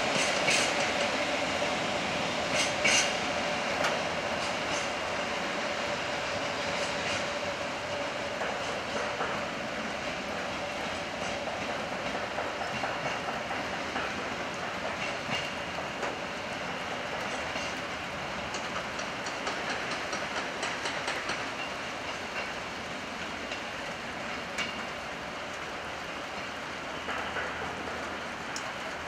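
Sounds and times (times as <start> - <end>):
railway wheels clicking over joints: 0.0 - 29.0.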